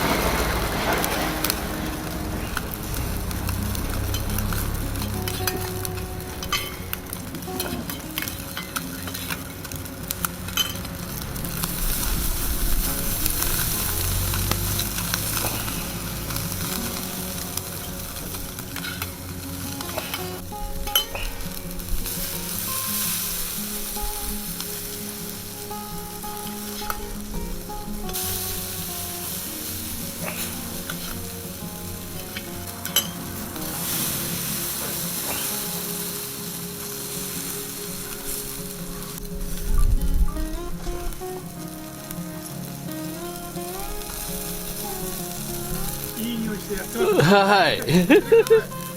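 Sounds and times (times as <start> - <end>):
skewers sizzling on charcoal grill: 0.0 - 48.9.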